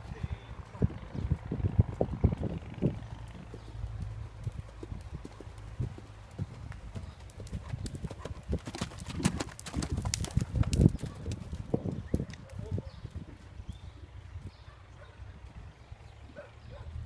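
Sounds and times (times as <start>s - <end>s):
horse hoofbeats on dirt: 0.0s - 17.0s.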